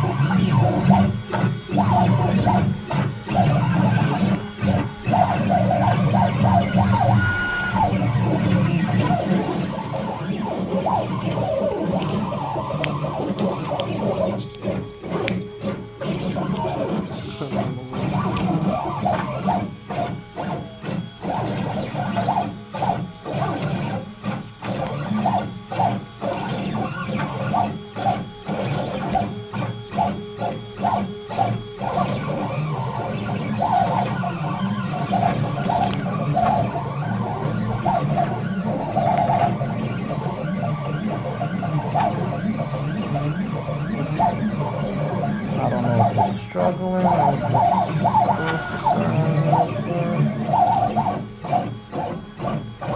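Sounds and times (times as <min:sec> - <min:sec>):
steady machine hum: 0:00.0 - 0:52.9
stepper motors whining: 0:00.0 - 0:52.9.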